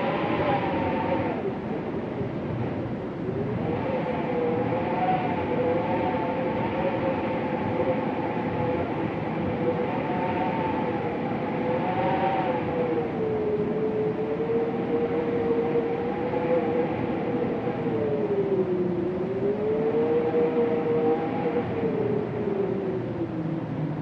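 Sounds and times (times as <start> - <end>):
wind moaning: 0.0 - 24.0.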